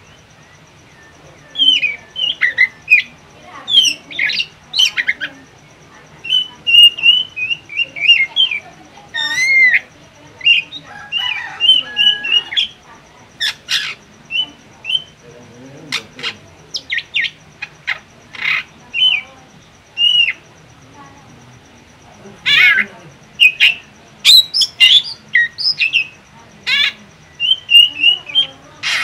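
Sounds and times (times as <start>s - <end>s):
bird singing whistled notes: 0.0s - 12.8s, 13.4s - 15.2s, 15.9s - 20.5s, 22.5s - 29.0s
harsh rasping bird calls: 0.0s - 29.0s.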